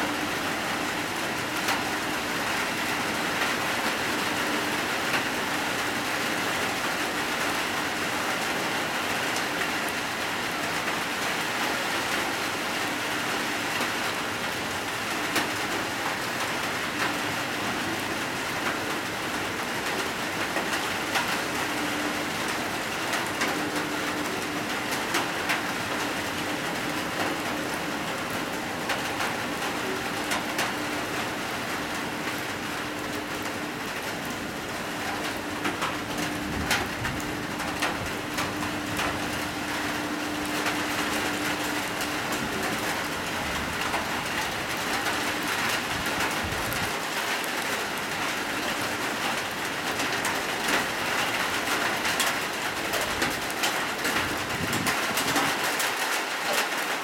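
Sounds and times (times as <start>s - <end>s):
heavy rain pouring: 0.0s - 57.0s
raindrops splashing: 0.0s - 57.0s.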